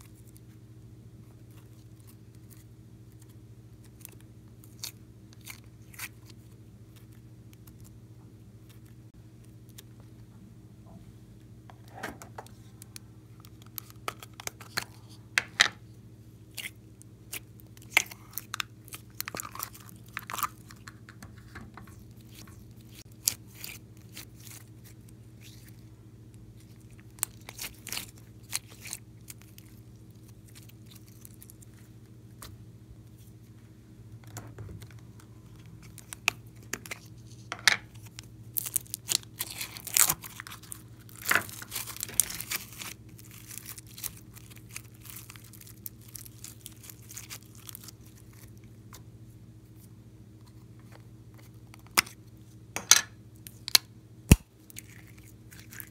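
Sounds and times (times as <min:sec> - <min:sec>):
faint low hum: 0:00.0 - 0:55.9.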